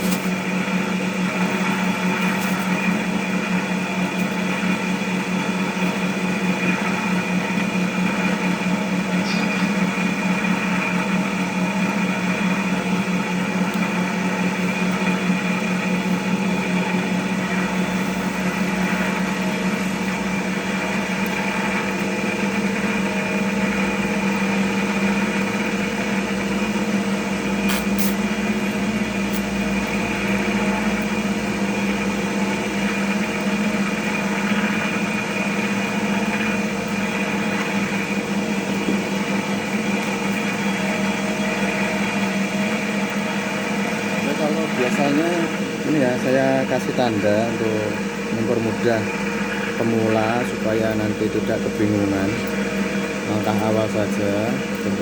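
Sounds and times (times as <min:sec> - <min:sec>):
electric motor humming: 0:00.0 - 0:55.0.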